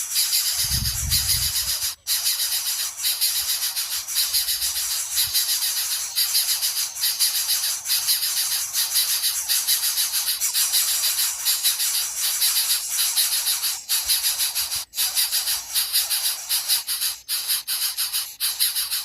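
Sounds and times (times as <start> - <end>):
insect chorus shrill buzzing: 0.0 - 19.0.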